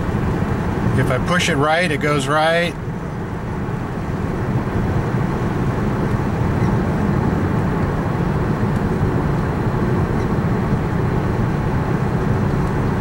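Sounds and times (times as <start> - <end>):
car cabin road hum: 0.0 - 13.0.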